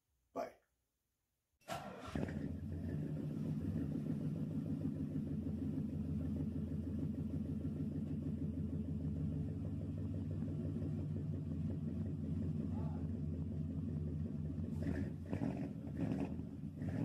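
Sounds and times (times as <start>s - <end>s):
engine idling: 1.7s - 17.0s.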